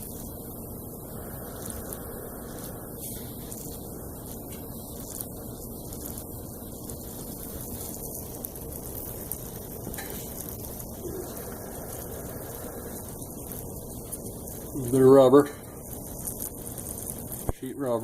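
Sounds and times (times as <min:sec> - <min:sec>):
water spraying from pipe leak: 0:00.0 - 0:18.0.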